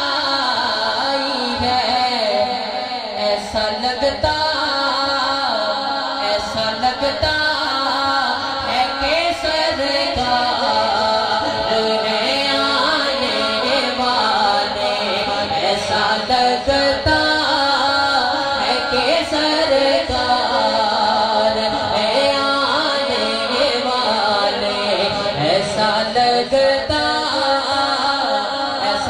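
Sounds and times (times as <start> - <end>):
man singing through sound system: 0.0 - 29.0.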